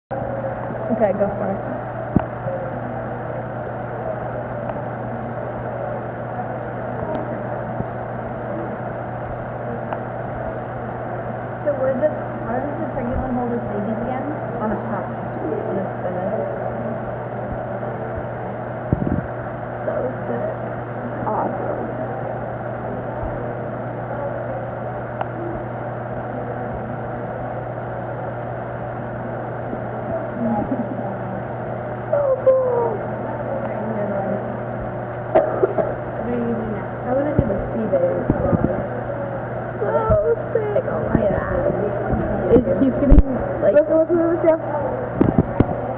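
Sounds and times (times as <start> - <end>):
low mechanical hum: 0.1 - 45.9.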